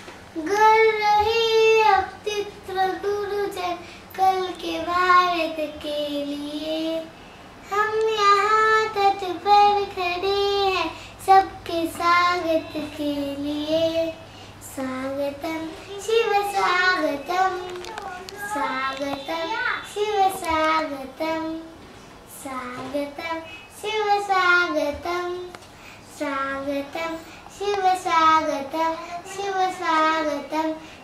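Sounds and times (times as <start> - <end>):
girl singing unaccompanied: 0.4 - 31.0.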